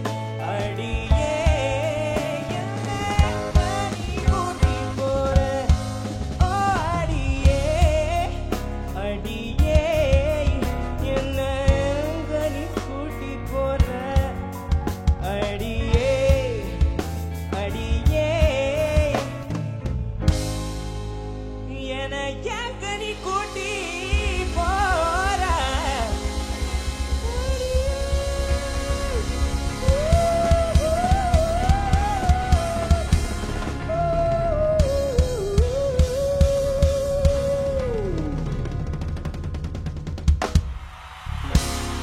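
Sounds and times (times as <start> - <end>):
person singing pop song: 0.0 - 19.9, 21.6 - 39.0
drum kit beat: 0.0 - 21.3, 22.7 - 42.0
band accompaniment: 0.0 - 42.0
sustained bass: 0.0 - 42.0.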